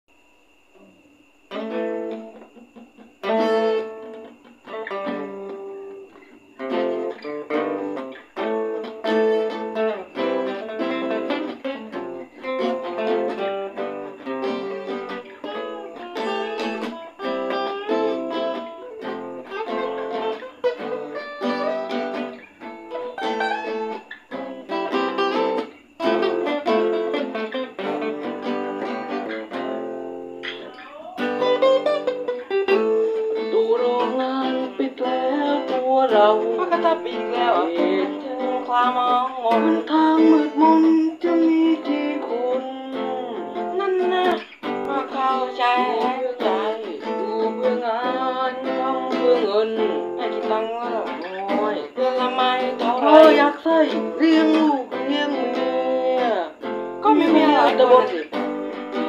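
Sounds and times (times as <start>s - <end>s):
acoustic guitars playing: 0.8s - 59.0s.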